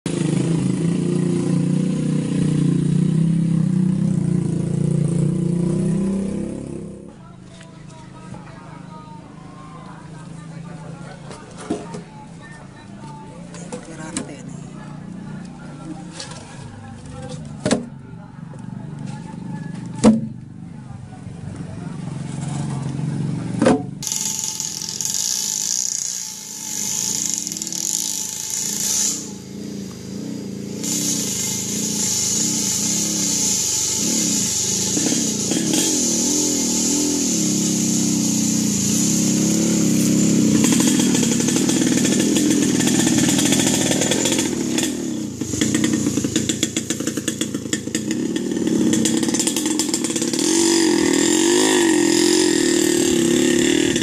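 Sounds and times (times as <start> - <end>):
motorcycle engine under load: 0.0 - 54.0.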